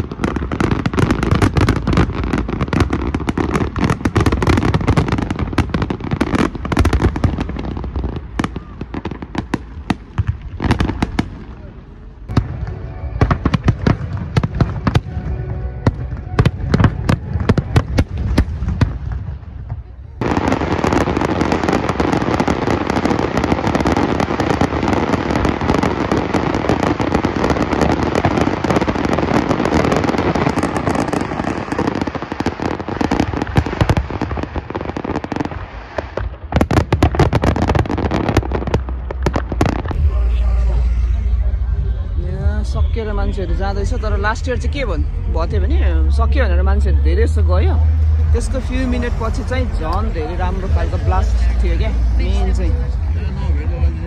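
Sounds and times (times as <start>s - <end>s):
dense fireworks barrage: 0.0s - 54.0s.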